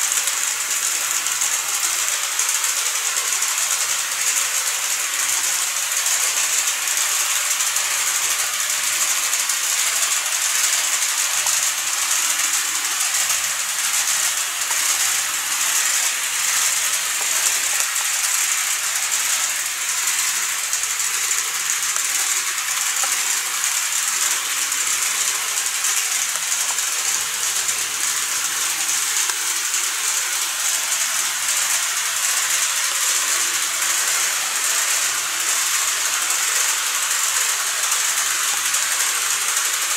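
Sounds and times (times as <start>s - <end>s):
model train hiss and rattle: 0.0s - 39.9s.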